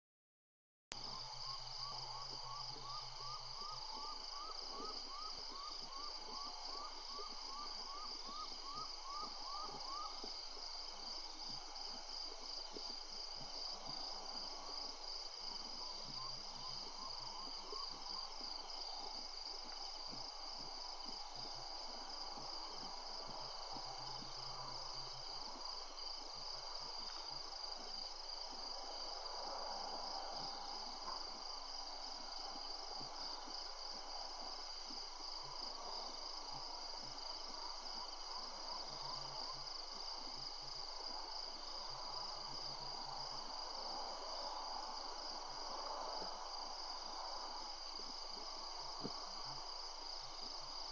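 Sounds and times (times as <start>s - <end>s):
insects trilling: 1.0s - 50.9s.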